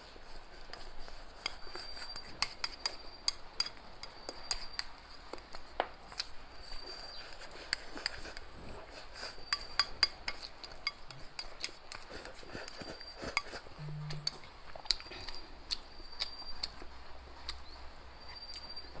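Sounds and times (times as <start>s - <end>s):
chopsticks clicking against a bowl: 0.7s - 6.3s, 7.3s - 17.8s.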